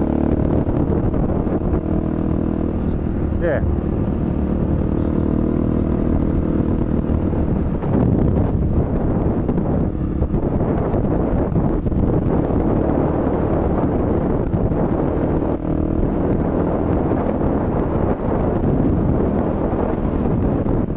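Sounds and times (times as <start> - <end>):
dirt bike engine running: 0.0 - 20.9
wind noise on microphone: 0.0 - 20.9.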